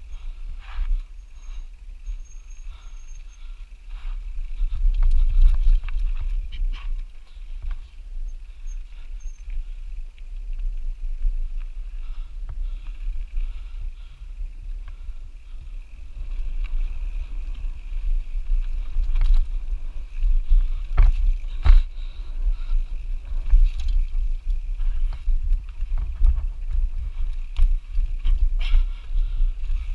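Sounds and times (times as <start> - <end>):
bike clicks and rattles: 0.0 - 29.9
wind rumbling on microphone: 0.0 - 29.9.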